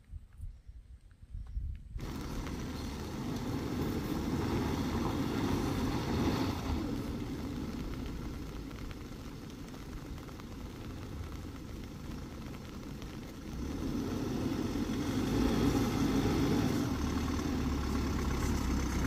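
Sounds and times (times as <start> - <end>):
diesel engine at low revs: 2.0 - 19.0.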